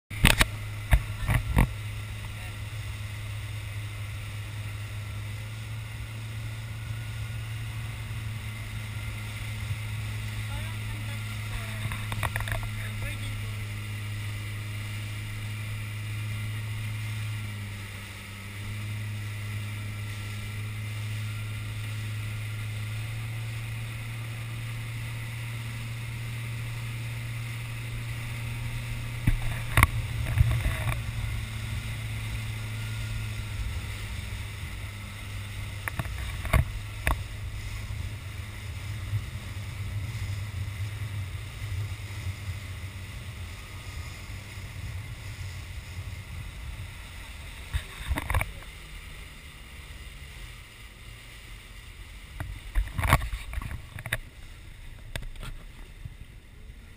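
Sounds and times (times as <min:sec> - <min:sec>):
motorboat engine humming: 0:00.1 - 0:56.9
water rushing past hull: 0:00.1 - 0:56.9.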